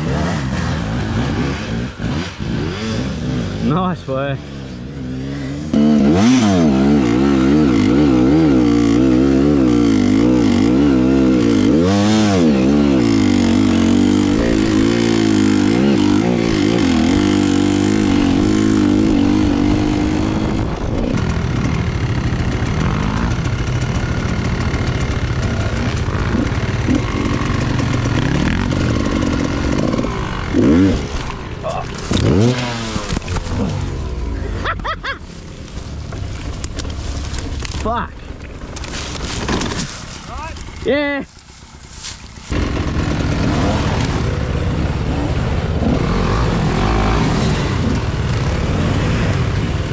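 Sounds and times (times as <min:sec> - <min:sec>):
dirt bike engine revving: 0:00.0 - 0:34.8, 0:42.4 - 0:49.9.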